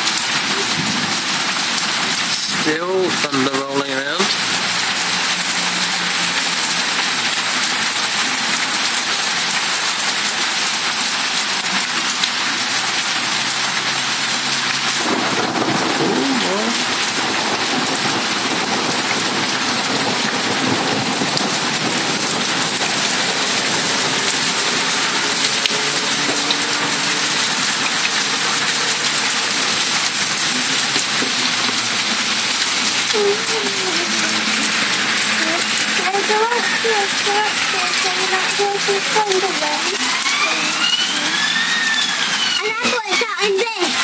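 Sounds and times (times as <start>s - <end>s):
heavy rain on hard surfaces: 0.0s - 44.0s.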